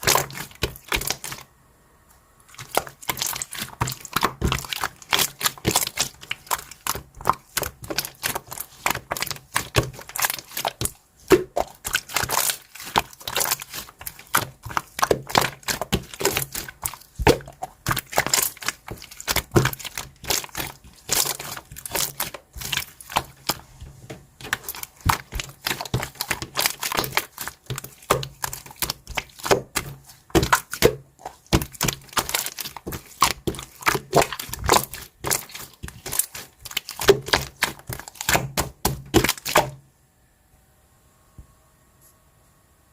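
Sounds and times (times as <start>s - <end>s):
crinkling and crackling: 0.0s - 1.5s, 2.4s - 39.8s.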